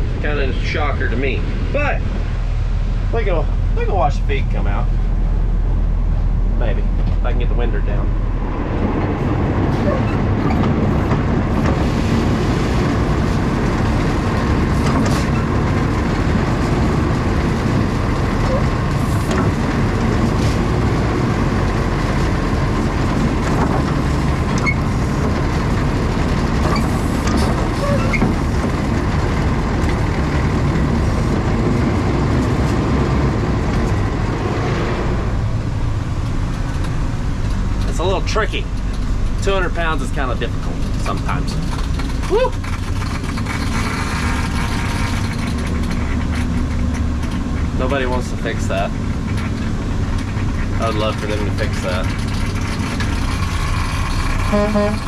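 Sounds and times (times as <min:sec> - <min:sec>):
truck running with low rumble: 0:00.0 - 0:55.0.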